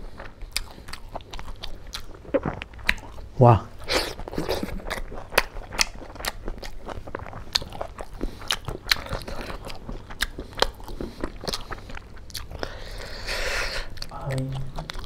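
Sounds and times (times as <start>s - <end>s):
wet mouth chewing clicks: 0.2s - 13.1s, 13.7s - 15.0s.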